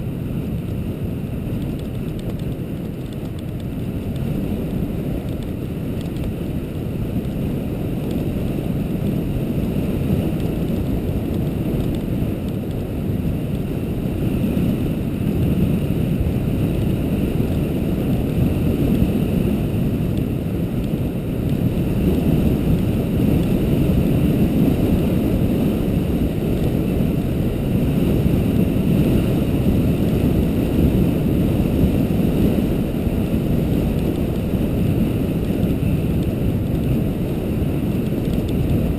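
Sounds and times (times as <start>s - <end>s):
vehicle rumble on road: 0.0s - 38.9s
wind noise on microphone: 0.0s - 38.9s.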